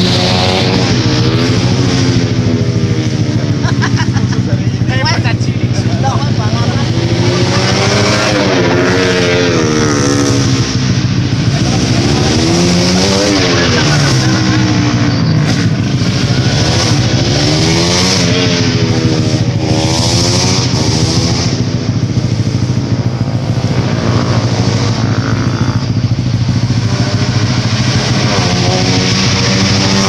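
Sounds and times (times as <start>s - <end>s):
racing motorcycle engines: 0.0s - 30.0s.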